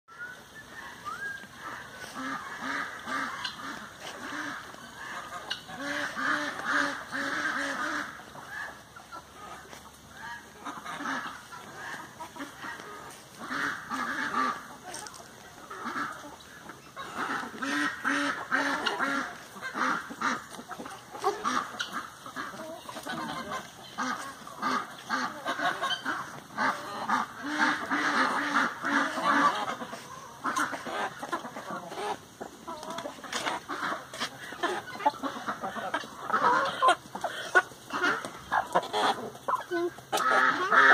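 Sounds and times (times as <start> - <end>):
poultry calling: 0.1 - 40.9.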